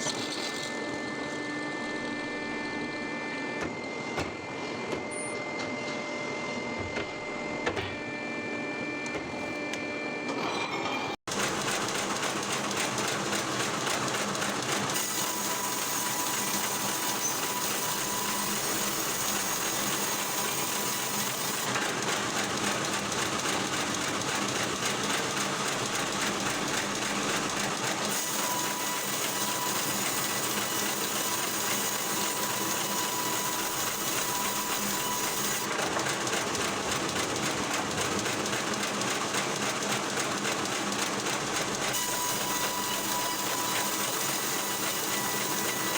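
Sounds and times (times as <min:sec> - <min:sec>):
wood-processing machinery running: 0:00.0 - 0:05.1, 0:11.3 - 0:45.9.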